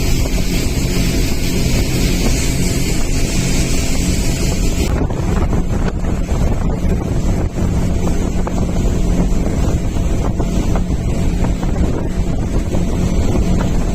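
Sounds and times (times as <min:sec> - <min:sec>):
outboard motor running: 0:00.0 - 0:13.9
water rushing against hull: 0:00.0 - 0:13.9
wind noise on microphone: 0:00.0 - 0:13.9.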